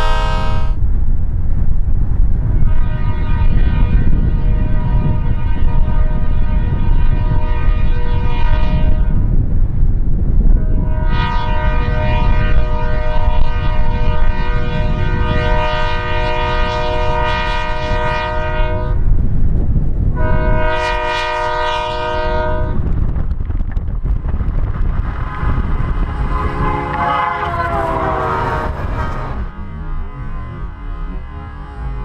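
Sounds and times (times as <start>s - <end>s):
locomotive air horn blasts: 0.0s - 0.8s, 2.6s - 9.4s, 10.6s - 19.1s, 20.1s - 22.8s, 25.0s - 32.0s
locomotive low rumble: 0.0s - 32.0s
train rushing past: 0.0s - 32.0s.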